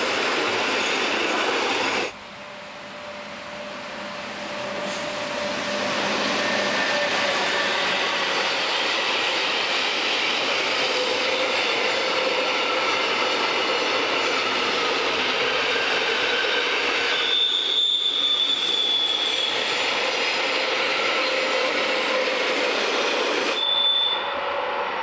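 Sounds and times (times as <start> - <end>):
train wheels squealing: 0.0 - 2.1, 3.0 - 25.0
rumble of train cars: 0.0 - 25.0.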